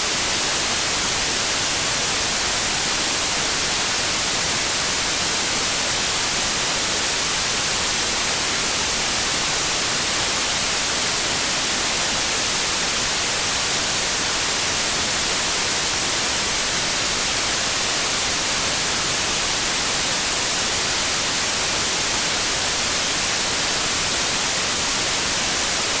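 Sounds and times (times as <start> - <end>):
steady white noise hiss: 0.0 - 26.0.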